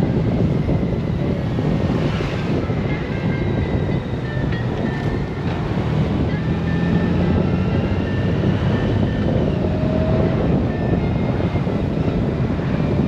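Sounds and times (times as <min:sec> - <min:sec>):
motorcycle cruising with wind rush: 0:00.0 - 0:13.0.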